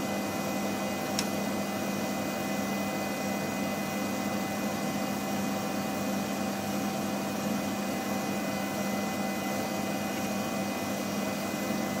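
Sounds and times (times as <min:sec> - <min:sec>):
equipment electrical hum: 0:00.0 - 0:12.0.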